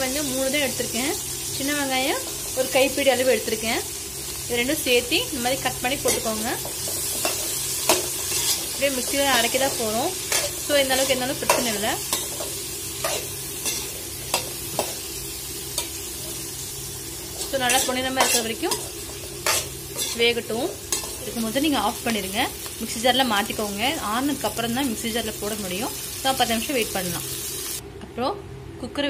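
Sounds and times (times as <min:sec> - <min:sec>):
onions sizzling in hot oil: 0:00.0 - 0:27.8.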